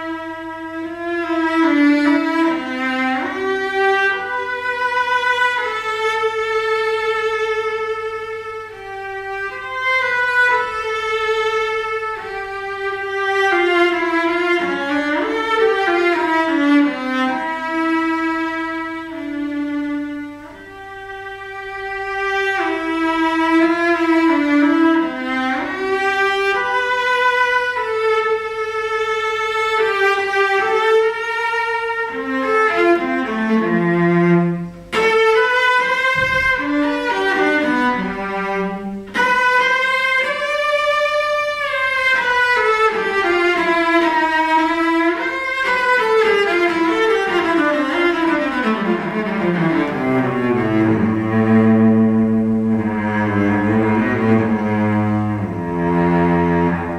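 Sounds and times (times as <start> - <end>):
solo cello melody with vibrato: 0.0 - 56.9.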